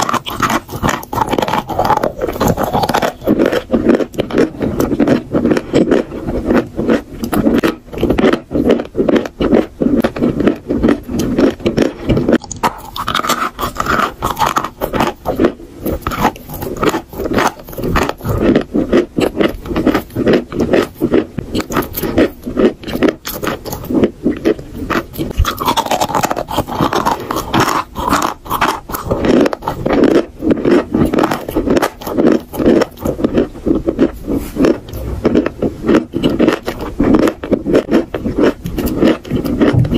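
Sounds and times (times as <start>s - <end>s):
chalk crunching while chewed: 0.0s - 39.9s.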